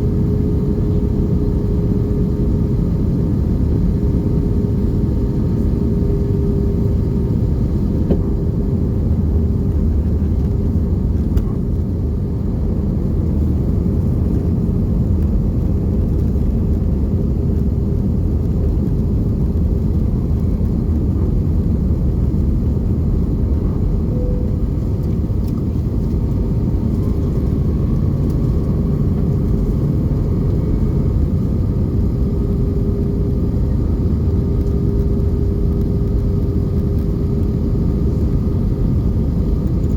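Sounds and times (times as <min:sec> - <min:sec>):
jet engine cabin rumble: 0:00.0 - 0:39.9
steady hum: 0:00.0 - 0:39.9.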